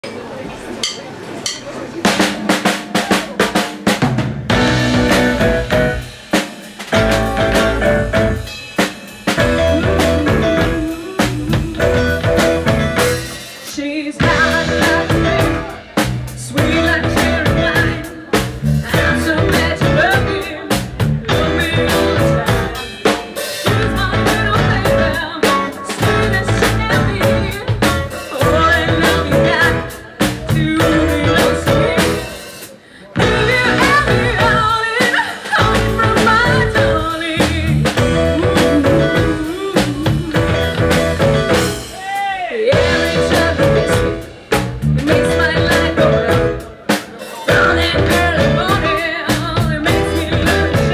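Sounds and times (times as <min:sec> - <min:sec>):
drum kit: 0:00.8 - 0:50.9
live band playing blues: 0:01.3 - 0:50.9
bass guitar: 0:03.4 - 0:13.6, 0:14.2 - 0:32.5, 0:33.2 - 0:35.0, 0:35.6 - 0:46.9, 0:47.5 - 0:50.9
electric guitars: 0:04.5 - 0:13.6, 0:14.2 - 0:32.4, 0:33.2 - 0:42.0, 0:42.7 - 0:50.9.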